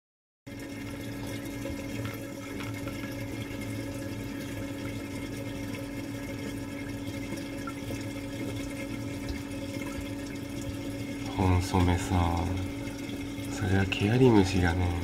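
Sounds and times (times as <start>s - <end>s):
low steady hum: 0.5s - 15.0s
water splashing and bubbling: 0.5s - 15.0s.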